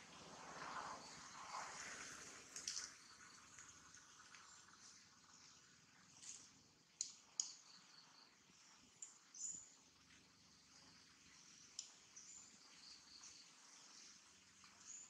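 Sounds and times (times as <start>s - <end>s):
birds and insects chirping: 0.1s - 15.0s.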